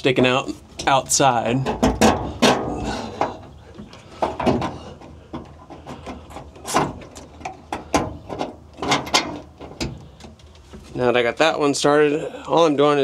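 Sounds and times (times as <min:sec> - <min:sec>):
bolts clicking and knocking: 0:00.0 - 0:10.9.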